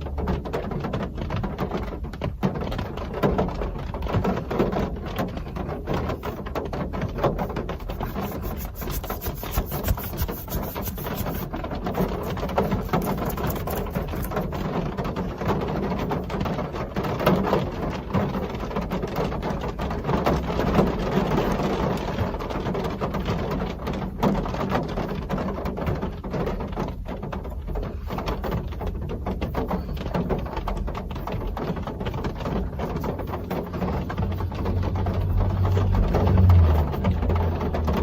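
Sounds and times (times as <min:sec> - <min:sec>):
rain falling steadily: 0:00.0 - 0:07.7, 0:14.4 - 0:38.0.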